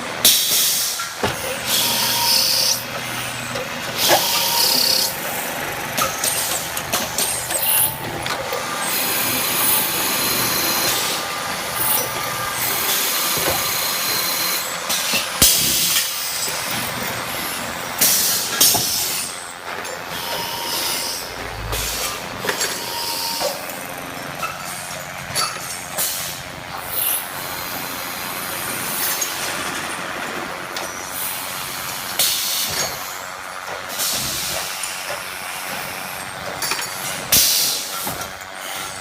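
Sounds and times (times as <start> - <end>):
drilling machine running: 0.0 - 39.0.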